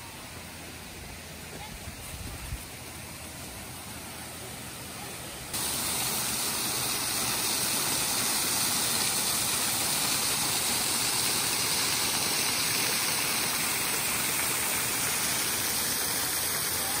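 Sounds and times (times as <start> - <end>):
small waterfall splashing: 0.0 - 17.0.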